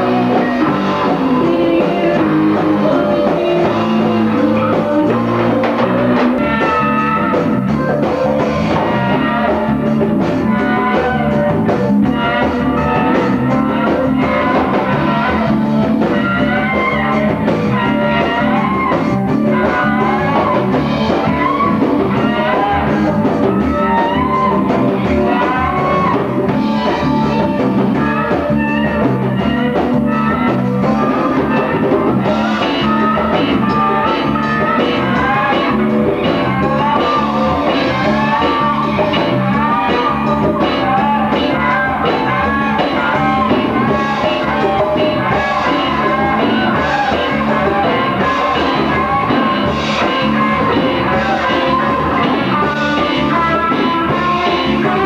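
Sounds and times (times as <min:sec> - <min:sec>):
congas: 0:00.0 - 0:55.0
electric guitar lead: 0:00.0 - 0:55.0
live rock band playing: 0:00.0 - 0:55.0.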